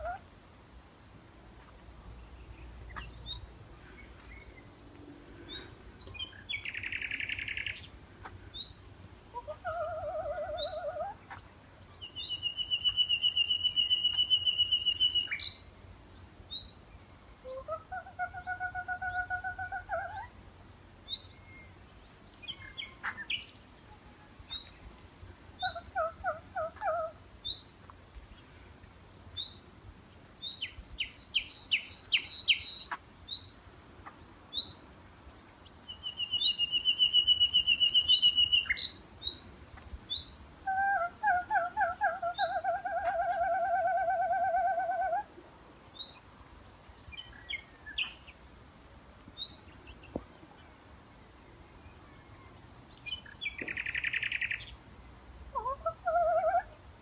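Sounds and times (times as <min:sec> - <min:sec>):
nightingale singing: 0:02.2 - 0:20.4, 0:21.0 - 0:29.7, 0:30.4 - 0:34.8, 0:35.6 - 0:45.3, 0:46.9 - 0:48.6, 0:49.4 - 0:54.9.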